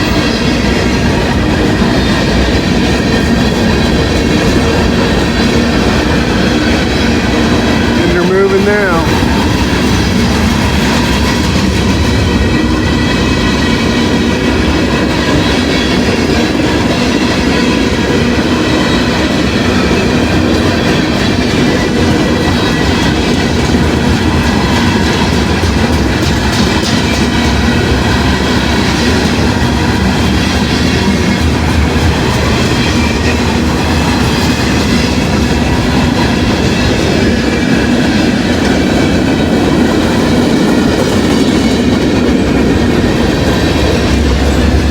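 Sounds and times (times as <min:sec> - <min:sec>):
freight train wheels clattering: 0:00.0 - 0:44.9.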